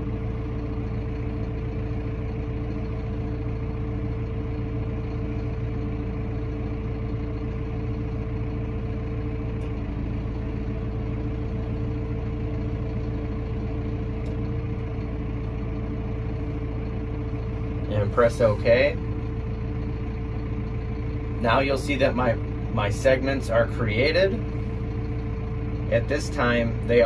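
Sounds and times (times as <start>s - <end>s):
tractor engine drone: 0.0s - 27.0s.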